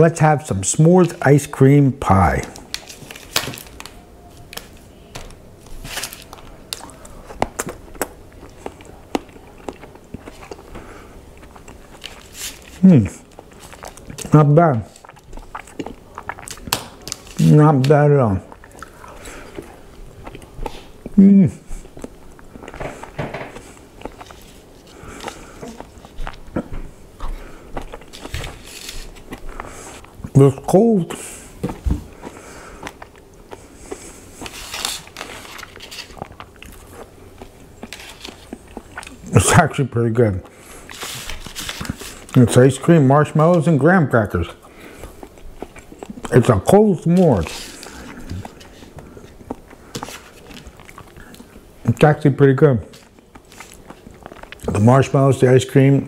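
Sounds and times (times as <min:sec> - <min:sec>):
person chewing: 0:02.1 - 0:30.4, 0:31.2 - 0:39.3, 0:44.6 - 0:51.8, 0:53.0 - 0:54.8.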